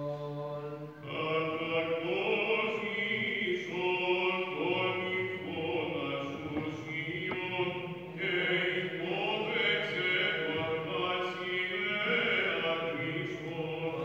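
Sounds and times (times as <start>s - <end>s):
low vocal drone: 0.0s - 14.0s.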